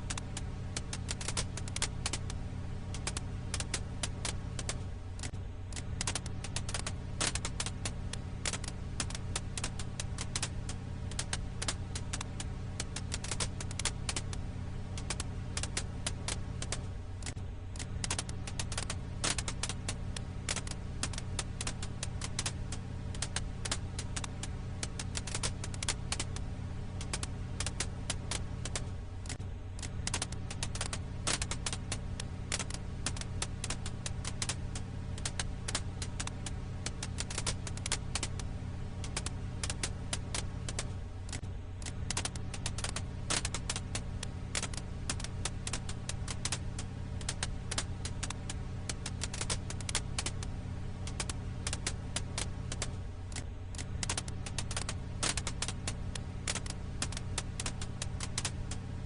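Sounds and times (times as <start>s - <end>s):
firewood crackling in campfire: 0.0s - 59.0s.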